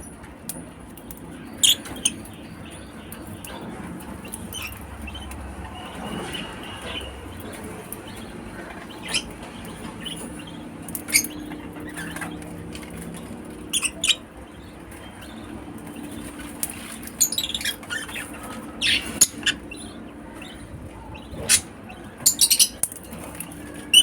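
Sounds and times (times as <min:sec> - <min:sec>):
lovebirds chirping: 0:01.0 - 0:24.0.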